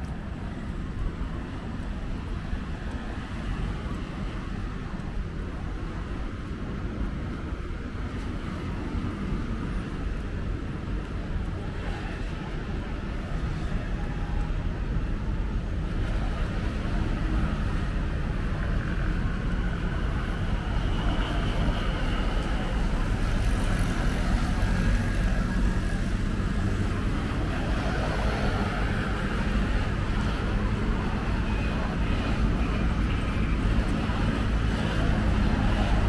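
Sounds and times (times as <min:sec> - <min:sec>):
city road traffic rumble: 0:00.0 - 0:36.0.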